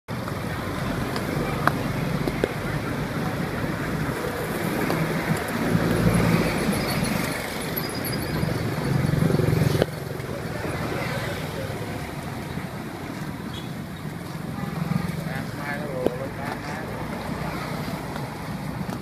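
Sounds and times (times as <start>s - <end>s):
passing engines humming: 0.1s - 19.0s
traffic noise: 0.1s - 19.0s
wind on microphone: 0.3s - 15.6s.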